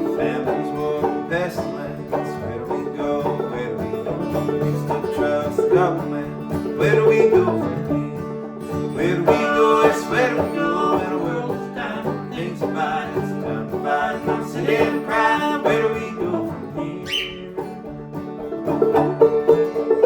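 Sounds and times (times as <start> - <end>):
bluegrass band playing: 0.0 - 20.0
picked banjo: 0.0 - 20.0.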